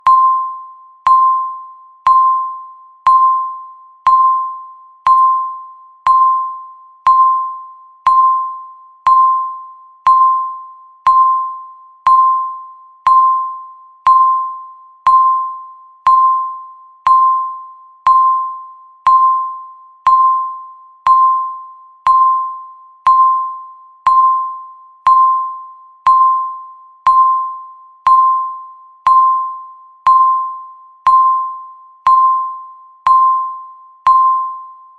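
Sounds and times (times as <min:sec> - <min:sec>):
countdown timer beep: 0:00.0 - 0:34.9.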